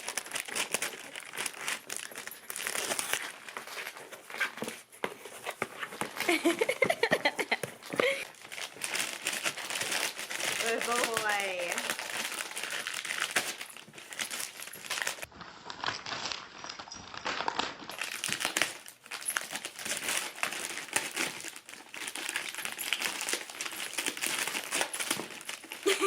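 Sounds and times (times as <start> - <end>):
wrapping paper crinkling and tearing: 0.0 - 26.0.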